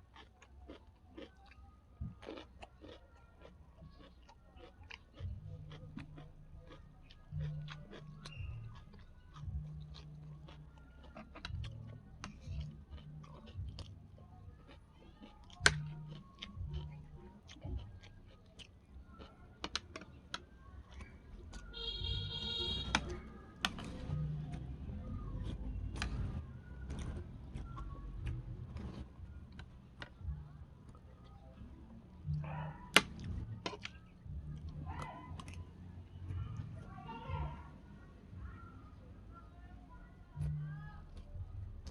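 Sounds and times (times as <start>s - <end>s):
person chewing food: 0.0s - 36.8s.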